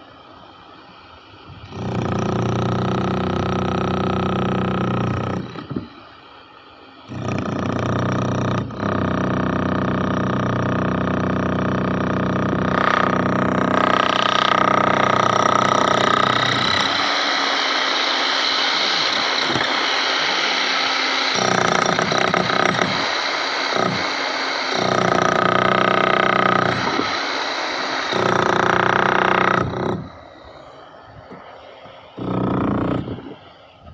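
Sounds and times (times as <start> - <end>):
concrete saw cutting: 1.6 - 6.4, 7.0 - 33.8.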